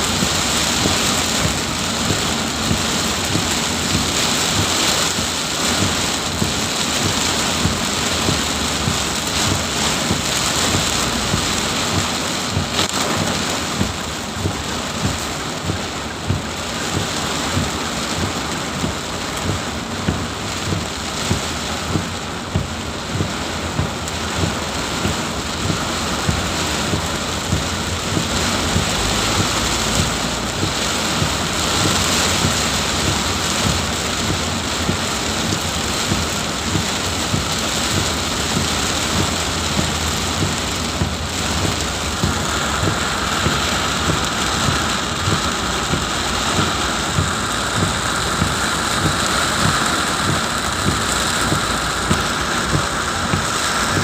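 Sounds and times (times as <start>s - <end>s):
heavy rain hiss: 0.0s - 54.0s
low thumps: 0.0s - 54.0s.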